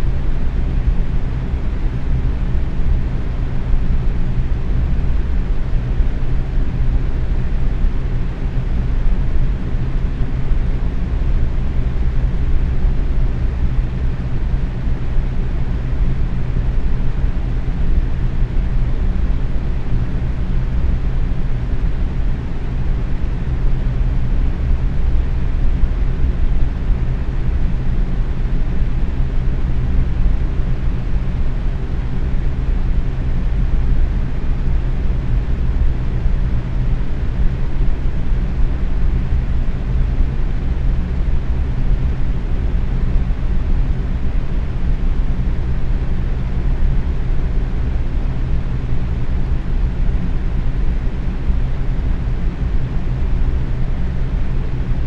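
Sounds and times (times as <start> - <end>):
faint fan hum: 0.0 - 55.0.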